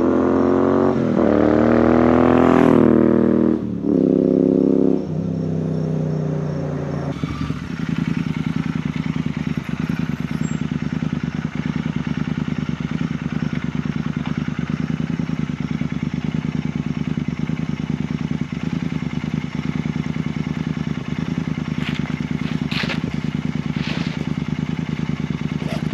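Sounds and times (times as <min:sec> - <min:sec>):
motorcycle engine idling: 0:02.9 - 0:25.9.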